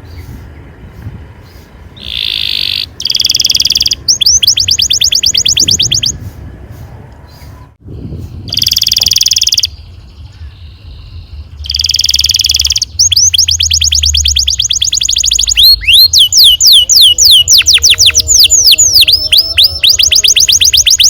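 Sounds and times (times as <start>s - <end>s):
canary singing: 1.4s - 6.4s, 8.5s - 21.0s.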